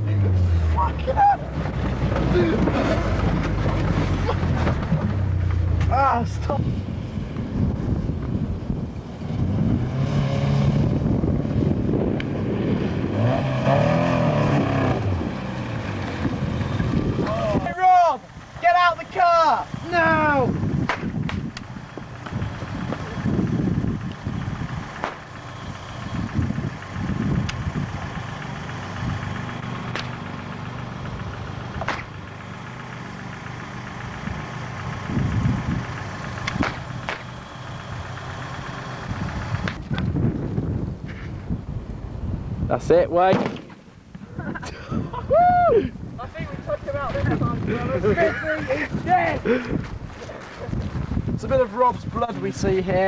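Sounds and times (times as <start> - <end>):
car engine running: 0.0 - 42.7, 45.9 - 53.0
wind buffeting microphone: 1.2 - 29.6, 34.1 - 37.1, 39.0 - 43.3, 44.1 - 53.0.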